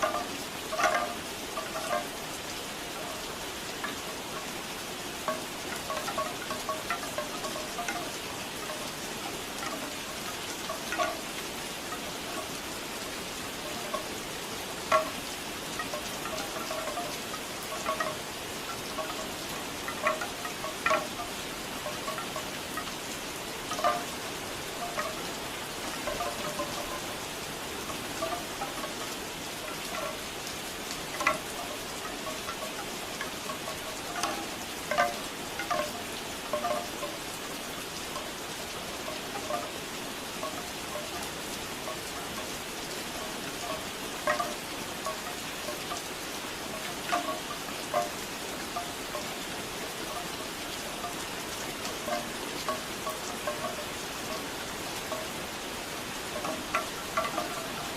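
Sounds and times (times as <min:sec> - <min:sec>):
bamboo wind chimes clacking: 0:00.0 - 0:57.9
steady rain: 0:00.0 - 0:57.9.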